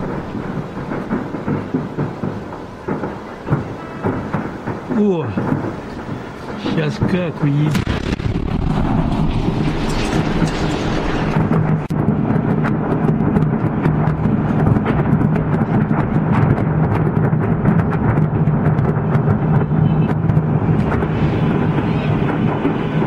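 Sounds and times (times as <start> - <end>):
explosion rumble: 0.0 - 23.0
scattered crackles: 0.0 - 23.0.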